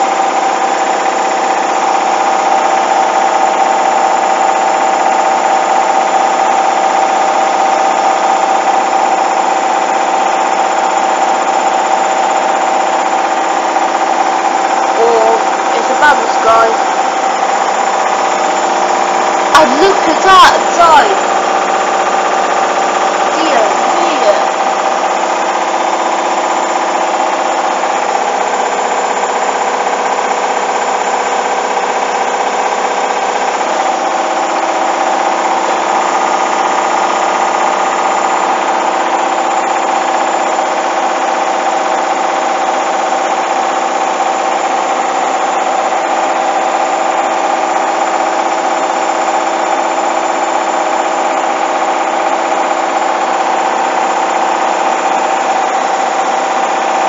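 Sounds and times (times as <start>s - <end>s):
washing machine motor whine: 0.0s - 57.0s.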